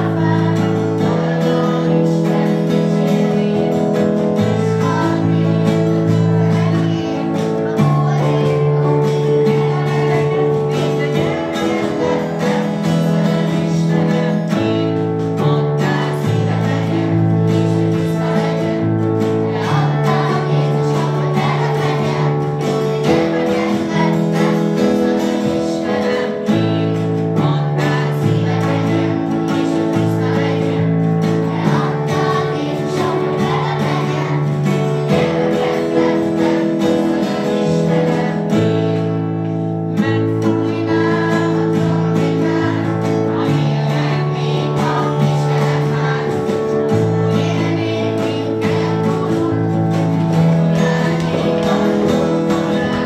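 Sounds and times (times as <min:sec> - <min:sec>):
guitar accompaniment: 0:00.0 - 0:53.0
people singing: 0:00.0 - 0:53.0.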